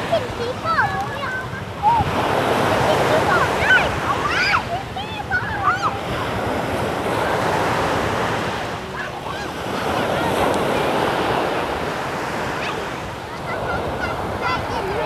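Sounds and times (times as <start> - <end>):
sea waves breaking on sand: 0.0 - 15.0
wind buffeting microphone: 0.0 - 15.0.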